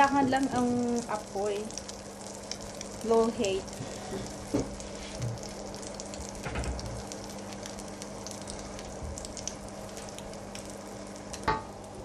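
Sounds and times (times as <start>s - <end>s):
toast sizzling in a pan: 0.0s - 12.0s.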